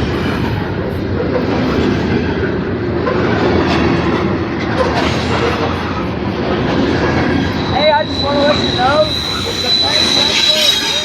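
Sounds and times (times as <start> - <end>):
freight train wheels rumbling on rails: 0.0 - 11.0
train cars clattering: 0.0 - 11.0.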